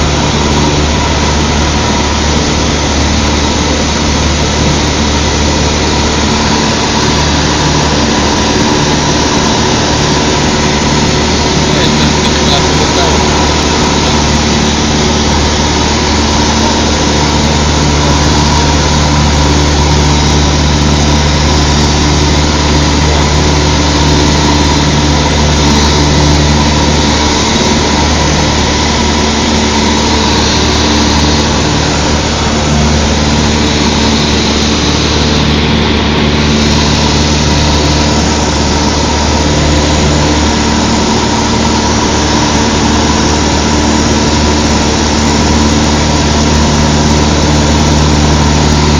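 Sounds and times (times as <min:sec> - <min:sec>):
airplane engine and propeller drone: 0:00.0 - 0:48.9.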